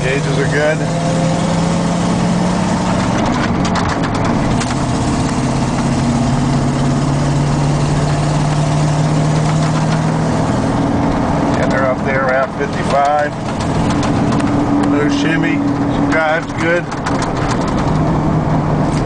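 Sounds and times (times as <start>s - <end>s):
truck engine drone from inside cab: 0.0s - 19.0s.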